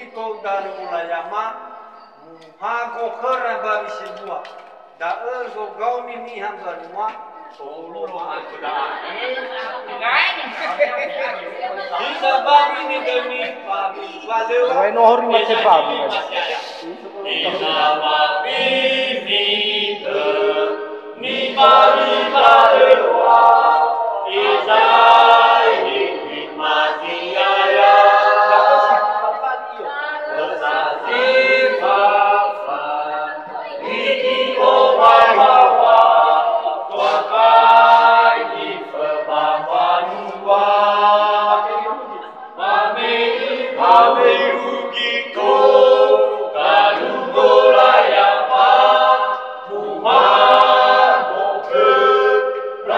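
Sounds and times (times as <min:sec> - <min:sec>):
group singing unaccompanied: 0:00.0 - 0:52.9.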